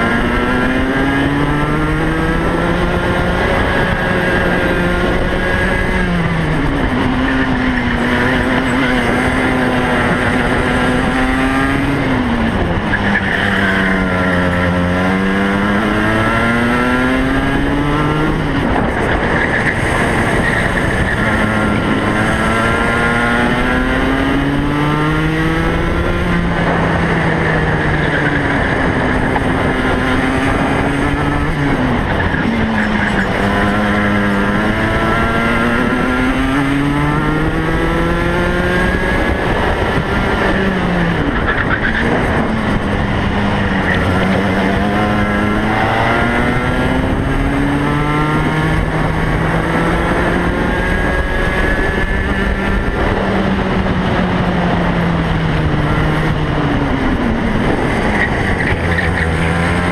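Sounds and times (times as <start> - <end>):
racing kart engine revving: 0.0 - 59.9.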